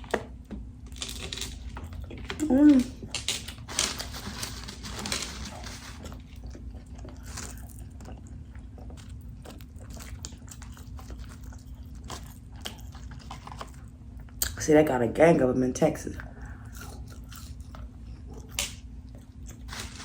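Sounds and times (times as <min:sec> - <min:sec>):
chewing and biting food: 0:00.0 - 0:14.6, 0:16.2 - 0:20.0
steady low hum: 0:00.0 - 0:20.0.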